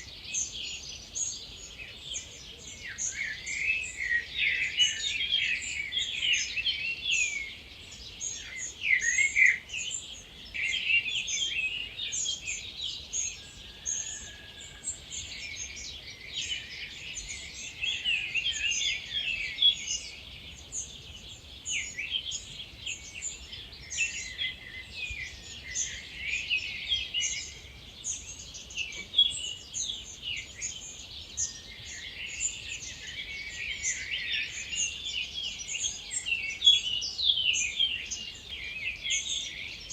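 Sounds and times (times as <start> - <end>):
many birds singing: 0.0 - 39.9.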